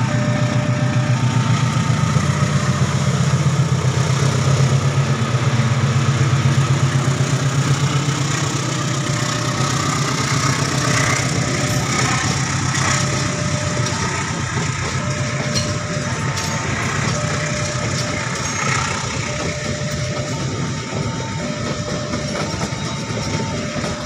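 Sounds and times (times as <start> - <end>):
diesel locomotive engine drone: 0.0 - 24.0
train coaches rumbling on rails: 0.0 - 24.0.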